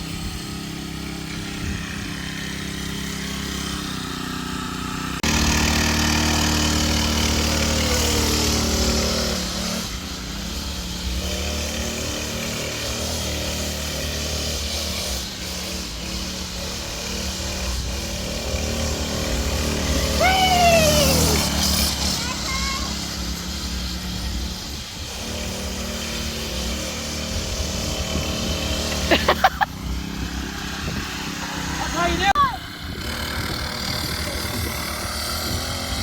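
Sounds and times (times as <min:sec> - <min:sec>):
small gas engine running: 0:00.0 - 0:36.0.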